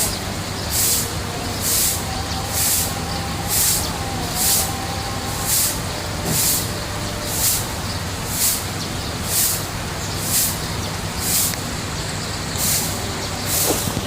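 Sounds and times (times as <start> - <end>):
hissing spurts of water spray: 0.0 - 14.0
low electric hum: 0.0 - 14.0.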